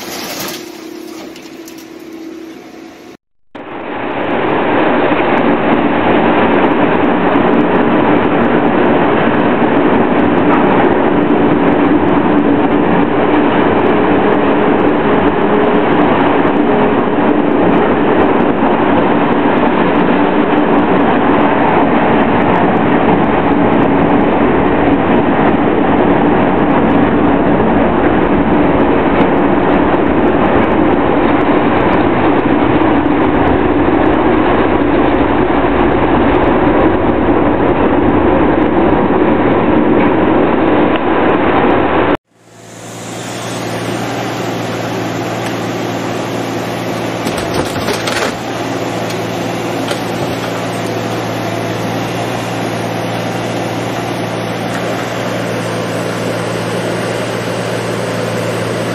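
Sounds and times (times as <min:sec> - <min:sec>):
loud steady machine noise: 0:00.0 - 0:58.9
low hum: 0:00.0 - 0:58.9.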